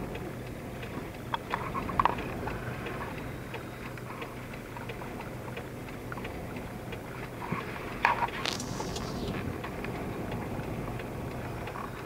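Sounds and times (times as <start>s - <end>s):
faint ticks: 0.0s - 12.0s
vehicle road and engine hum: 0.0s - 12.0s.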